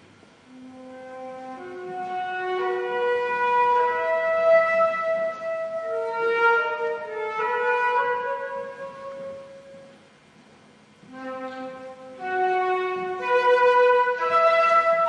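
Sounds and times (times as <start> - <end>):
slow melody of held notes: 0.5 - 10.1, 11.0 - 15.0.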